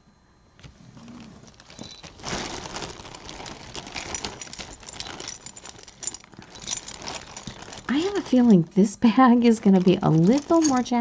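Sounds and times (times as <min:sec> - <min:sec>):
jewelry clinking and rattling: 0:01.1 - 0:11.0.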